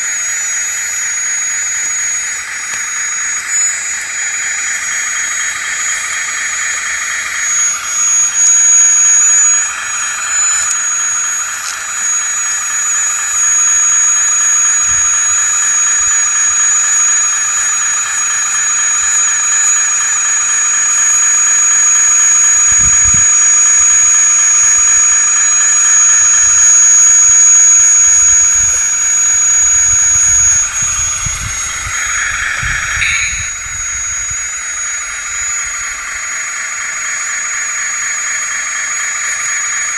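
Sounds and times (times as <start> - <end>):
electric motors whining: 0.0 - 39.9
hydraulic pump buzzing: 0.0 - 39.9.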